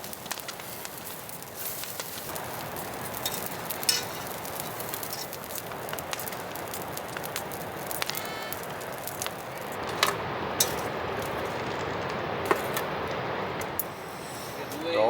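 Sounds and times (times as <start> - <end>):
food sizzling in a pan: 0.0 - 15.0
sharp crackles and pops: 0.0 - 15.0.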